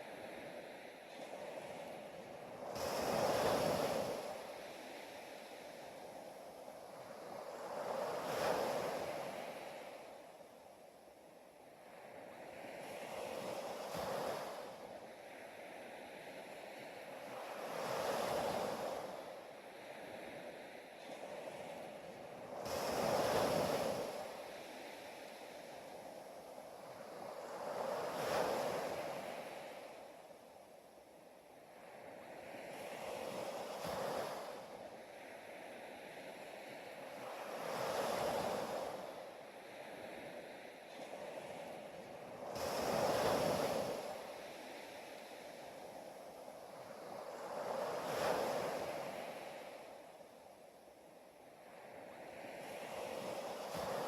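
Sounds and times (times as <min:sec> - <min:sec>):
ocean waves washing in: 0:00.0 - 0:54.0.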